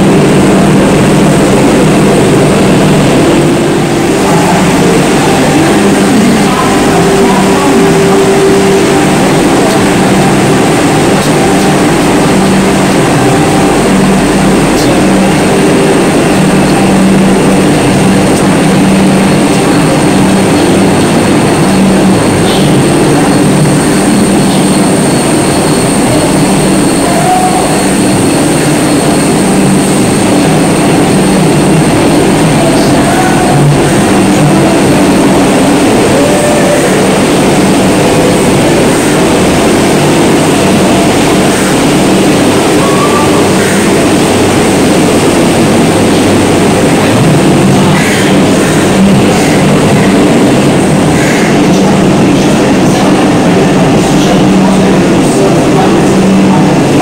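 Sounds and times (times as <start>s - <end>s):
electric train hum: 0.0s - 57.0s
thin high whine: 0.0s - 57.0s.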